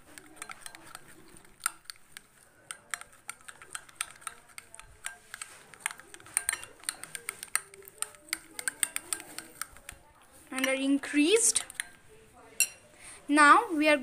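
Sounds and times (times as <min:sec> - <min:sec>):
utensil tapping a plate: 0:00.0 - 0:12.0.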